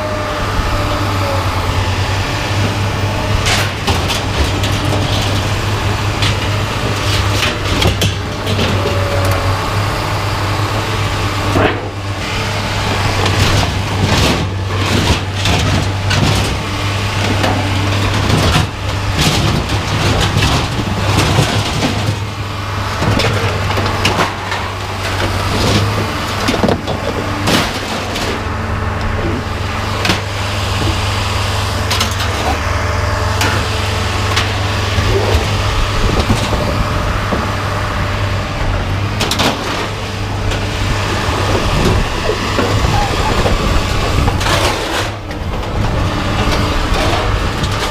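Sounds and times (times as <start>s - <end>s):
engine running: 0.0s - 47.9s
scrap metal clanking and banging: 1.9s - 47.9s.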